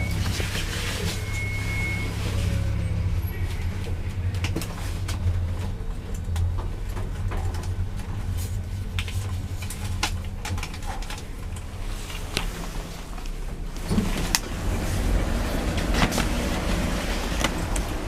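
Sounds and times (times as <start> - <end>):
lift humming: 0.0 - 18.0.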